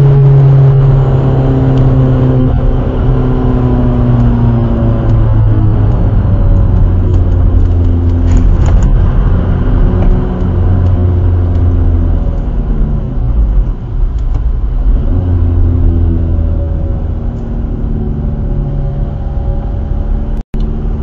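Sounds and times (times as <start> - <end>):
car engine drone: 0.0 - 21.0
road and tyre rumble: 0.0 - 21.0.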